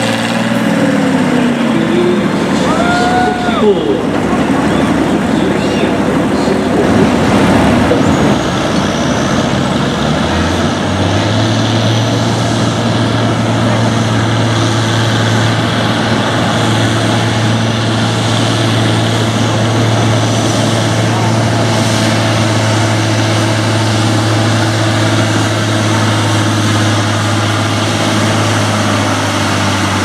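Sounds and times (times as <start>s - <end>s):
tractor engine running loud: 0.0s - 30.0s.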